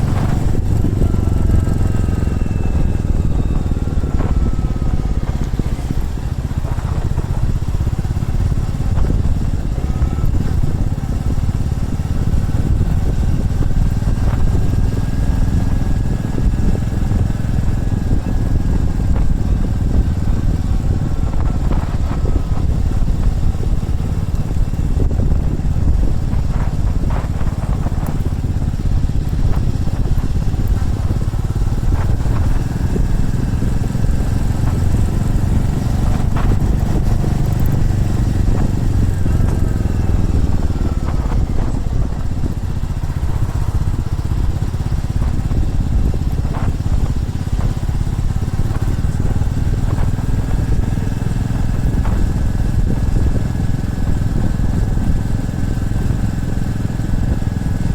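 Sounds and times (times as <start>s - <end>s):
motorcycle engine riding: 0.0s - 57.9s.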